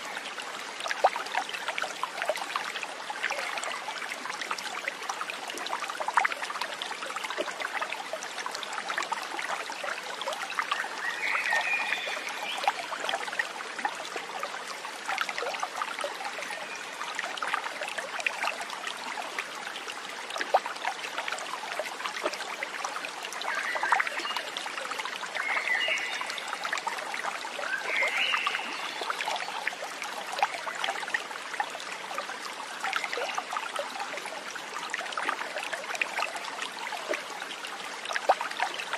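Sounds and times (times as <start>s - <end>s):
water trickling and burbling: 0.0s - 38.9s.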